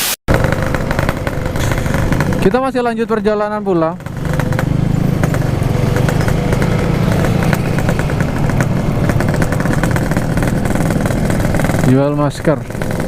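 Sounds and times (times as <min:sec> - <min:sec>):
two-stroke motorcycle engine running: 0:00.3 - 0:13.0.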